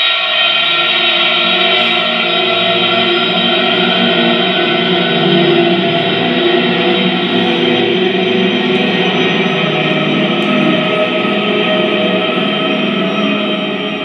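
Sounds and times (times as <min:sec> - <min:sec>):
sustained choir-like music: 0:00.0 - 0:14.0.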